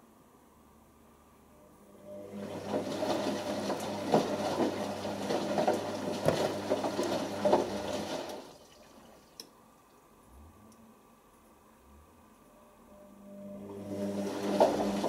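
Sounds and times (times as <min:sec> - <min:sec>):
washing machine motor hum: 0:01.2 - 0:10.8, 0:11.8 - 0:15.0.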